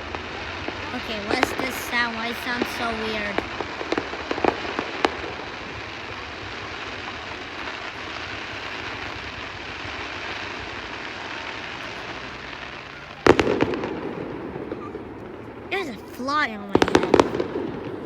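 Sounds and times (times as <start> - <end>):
loud firework bang: 0.0 - 15.7, 16.7 - 18.0
fireworks popping and crackling: 0.0 - 18.0
fireworks rushing noise: 0.0 - 18.0.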